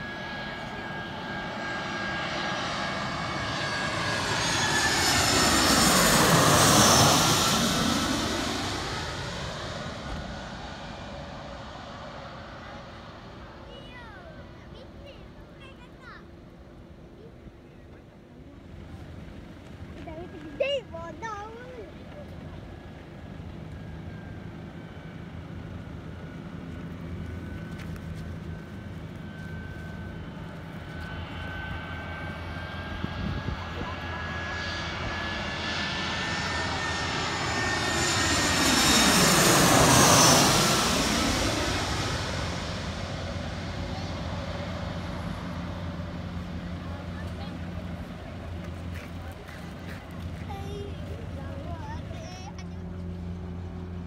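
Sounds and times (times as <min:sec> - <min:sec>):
high engine whine: 0:00.0 - 0:13.6, 0:16.8 - 0:54.0
jet airliner passing overhead: 0:00.0 - 0:54.0.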